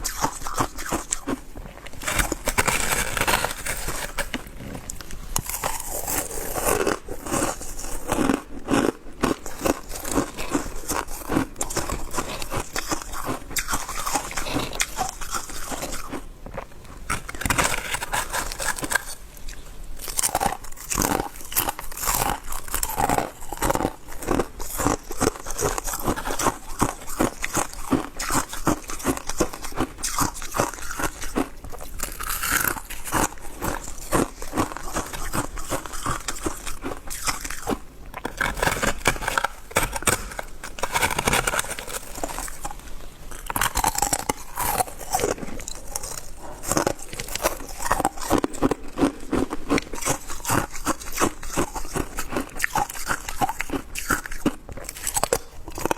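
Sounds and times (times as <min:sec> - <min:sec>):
person crunching ice: 0:00.0 - 0:55.9.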